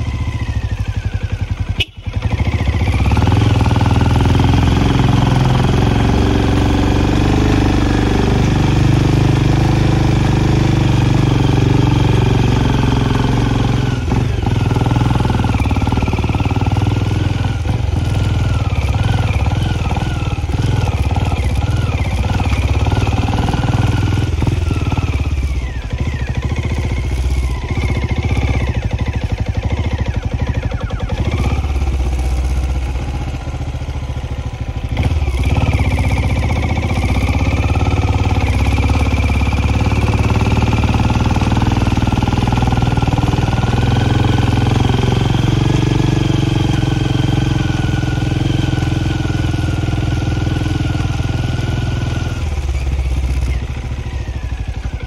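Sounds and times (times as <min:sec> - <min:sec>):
motorcycle engine climbing hill: 0:00.0 - 0:55.0.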